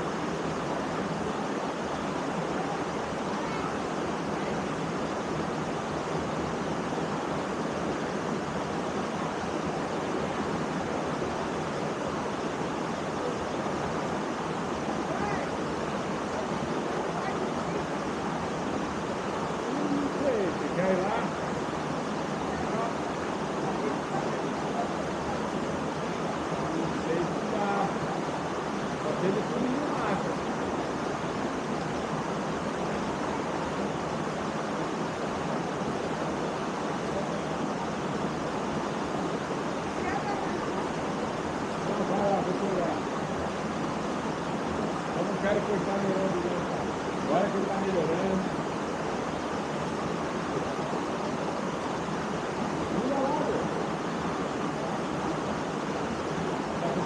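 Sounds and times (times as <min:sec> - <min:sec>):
faint voices: 0:00.0 - 0:57.0
waterfall rushing into a rock pool: 0:00.0 - 0:57.0.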